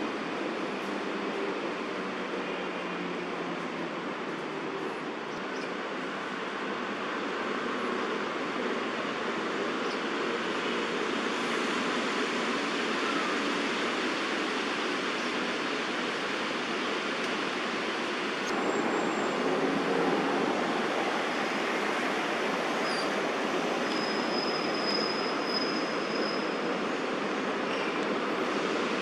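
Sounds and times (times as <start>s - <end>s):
distant city traffic hum: 0.0s - 29.0s.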